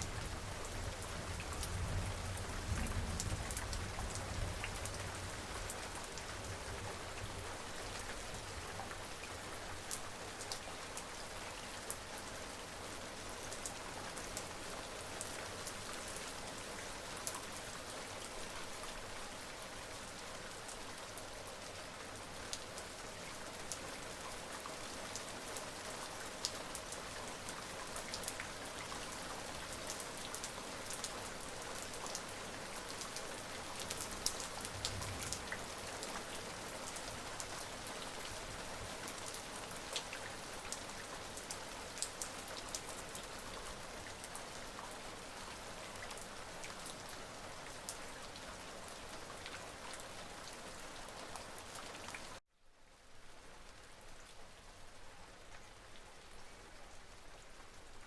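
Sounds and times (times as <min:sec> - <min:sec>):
raindrops ticking on a surface: 0:00.0 - 0:12.4, 0:13.0 - 0:52.4
rain falling: 0:00.0 - 0:58.0.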